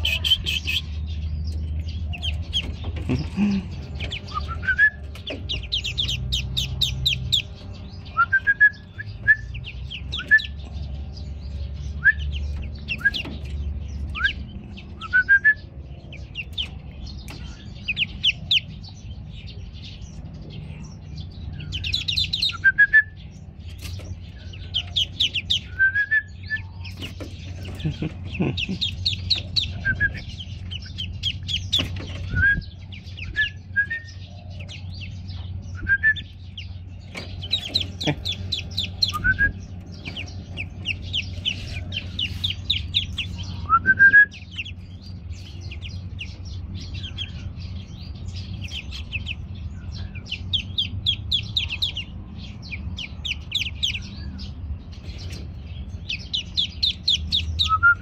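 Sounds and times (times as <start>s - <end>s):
ducklings peeping: 0.0s - 58.0s
steady low hum: 0.0s - 58.0s.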